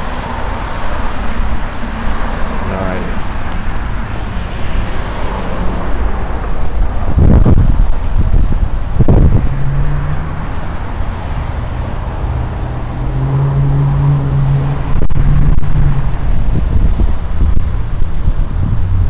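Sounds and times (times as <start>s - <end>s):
vehicle engine humming: 0.0s - 19.0s
wind buffeting microphone: 0.0s - 19.0s.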